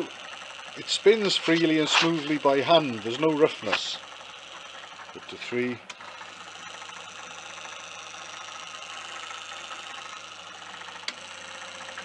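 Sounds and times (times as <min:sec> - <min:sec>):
electric motor whirring hum: 0:00.0 - 0:12.0.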